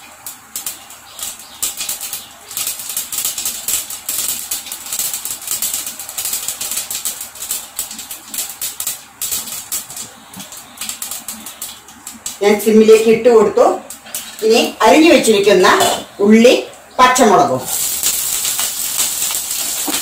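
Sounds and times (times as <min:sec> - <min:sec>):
seeds popping in hot oil: 0:00.0 - 0:16.1, 0:16.8 - 0:20.0.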